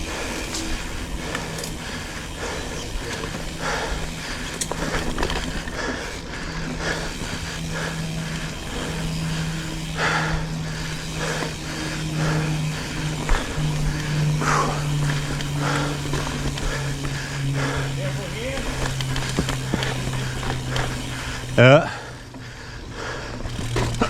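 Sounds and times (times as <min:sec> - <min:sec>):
bike freehub buzzing: 0:00.0 - 0:24.0
bike rattling and clicking: 0:00.0 - 0:24.0
bike tyres rumbling on dirt: 0:00.0 - 0:24.0.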